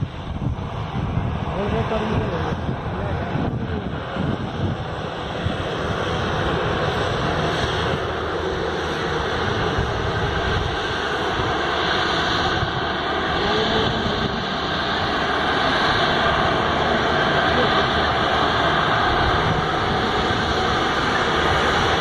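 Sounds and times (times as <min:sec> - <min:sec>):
turboprop plane taxiing: 0:00.0 - 0:22.0.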